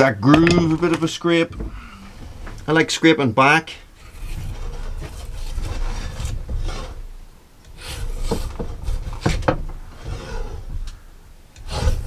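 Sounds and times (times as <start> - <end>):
tool scraping metal bar: 0.0 - 12.0.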